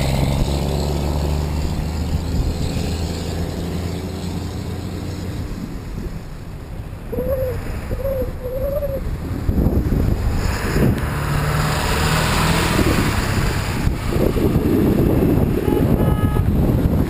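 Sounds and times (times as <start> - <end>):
pickup truck passing: 0.0 - 17.0
wind buffeting microphone: 0.0 - 17.0.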